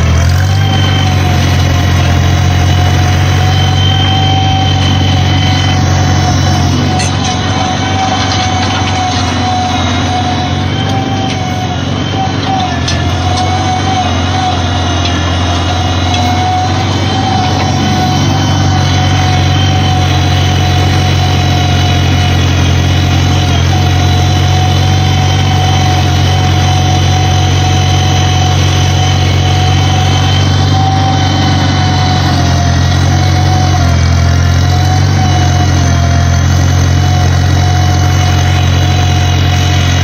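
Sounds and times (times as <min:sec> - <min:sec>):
small tractor engine running: 0:00.0 - 0:40.0
thin wavering whine: 0:00.0 - 0:40.0.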